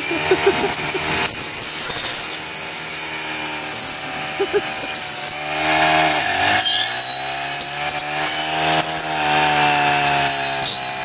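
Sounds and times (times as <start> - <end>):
brushcutter running at high revs: 0.0 - 11.0.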